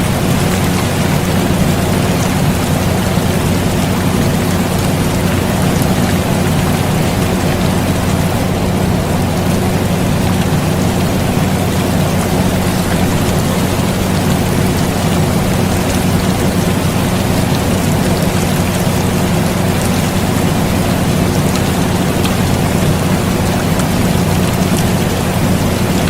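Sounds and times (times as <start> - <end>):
air conditioner hum: 0.0 - 26.0
rain falling: 0.0 - 26.0.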